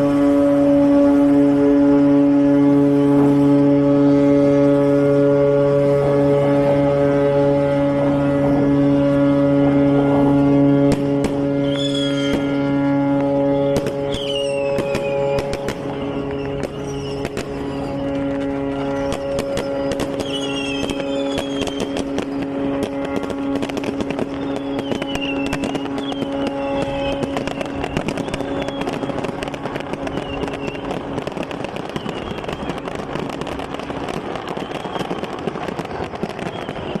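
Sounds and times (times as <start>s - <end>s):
firecrackers crackling: 0.0s - 37.0s
ship's horn blast: 0.0s - 37.0s.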